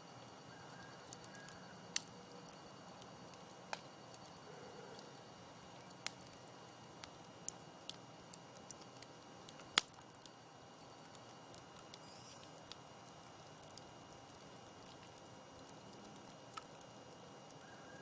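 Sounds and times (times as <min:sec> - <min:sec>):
campfire crackling: 0:00.0 - 0:18.0
faint steady hiss: 0:00.0 - 0:18.0.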